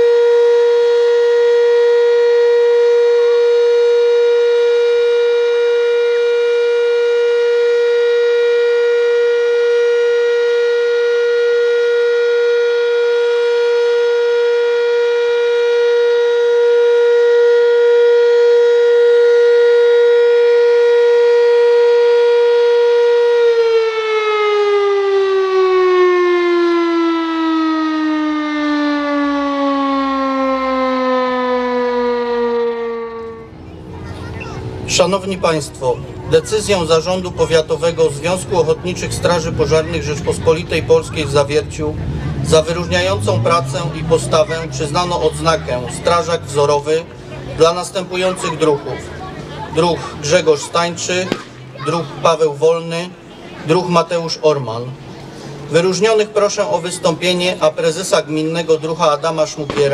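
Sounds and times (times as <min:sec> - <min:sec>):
fire siren wailing: 0:00.0 - 0:54.4.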